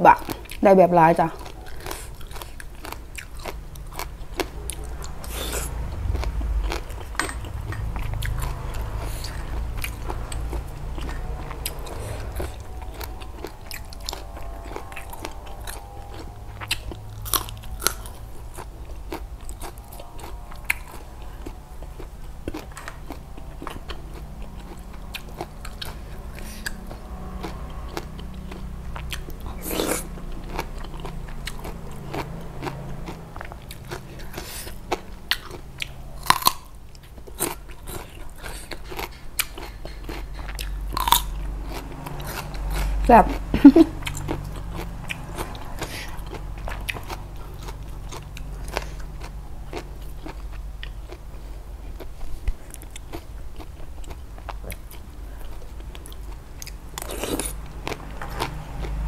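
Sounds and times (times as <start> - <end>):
person chewing and crunching food: 0.0 - 59.0.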